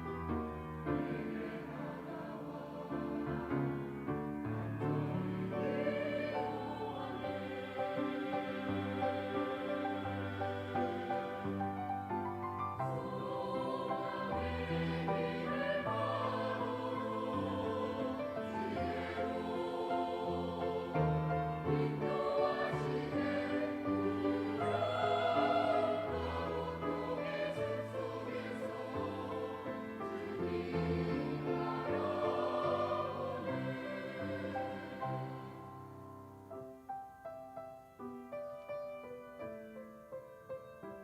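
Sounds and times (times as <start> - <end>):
church choir singing: 0.0 - 36.6.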